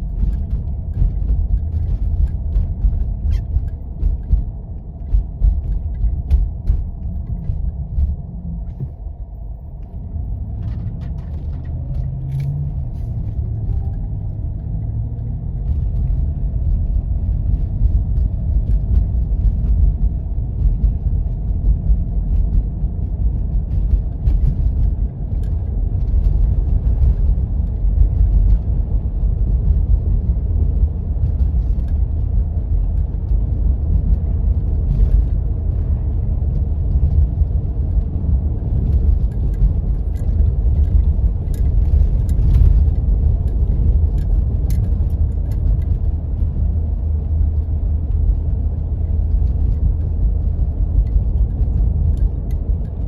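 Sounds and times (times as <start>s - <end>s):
light ticks and rattles: 0.0s - 53.0s
vehicle engine and tyres rumbling: 0.0s - 53.0s.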